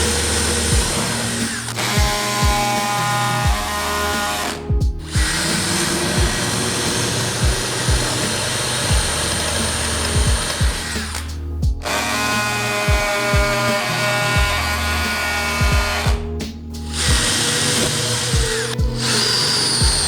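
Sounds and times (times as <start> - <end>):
background music with a beat: 0.0 - 20.0
electric drill running: 0.0 - 20.0.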